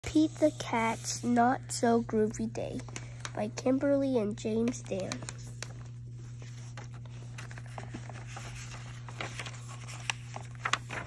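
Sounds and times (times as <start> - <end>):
steady low hum: 0.0 - 11.0
paper rustling: 0.2 - 11.0.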